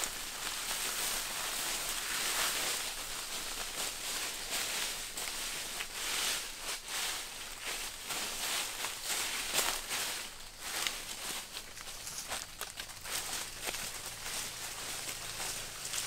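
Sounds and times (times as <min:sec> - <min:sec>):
dry leaves rustling and crackling: 0:00.0 - 0:16.0
footsteps shuffling through leaves: 0:00.0 - 0:16.0.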